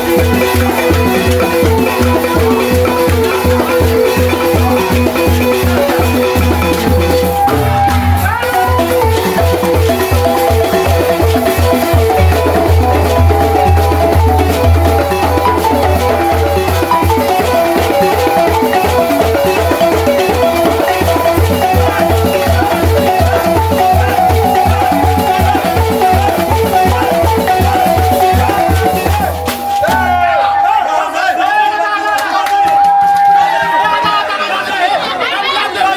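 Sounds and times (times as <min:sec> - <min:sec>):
wooden xylophone melody: 0:00.0 - 0:30.9.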